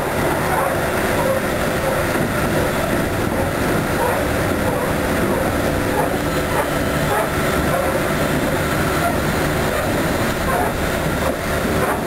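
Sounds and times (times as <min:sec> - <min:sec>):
traction motor hum: 0:00.0 - 0:12.0
train wheels on rails: 0:00.0 - 0:12.0.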